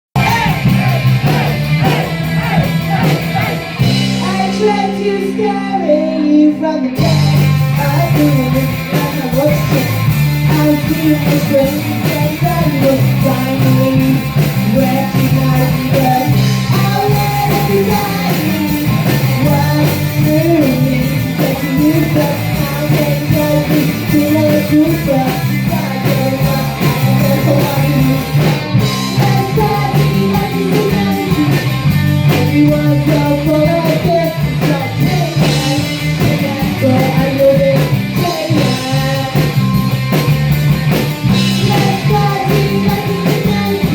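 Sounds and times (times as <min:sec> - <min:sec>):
live rock band playing: 0:00.2 - 0:43.9.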